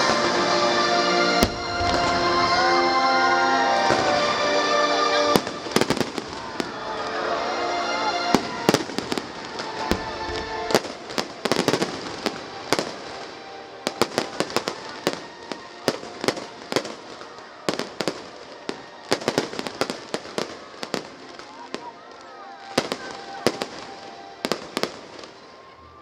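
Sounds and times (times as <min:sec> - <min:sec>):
fireworks bursting: 0:00.0 - 0:25.8.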